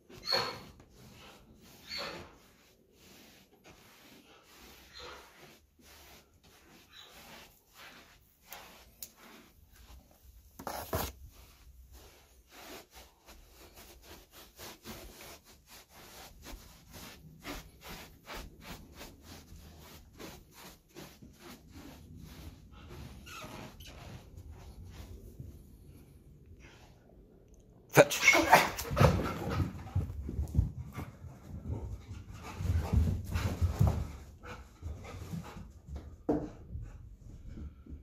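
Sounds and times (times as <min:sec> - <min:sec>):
faint rubbing and scuffing: 0:00.0 - 0:27.0, 0:28.5 - 0:38.0.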